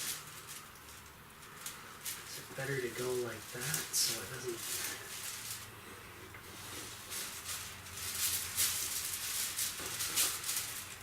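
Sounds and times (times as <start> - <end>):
wiring rustling and scraping: 0.0 - 11.0.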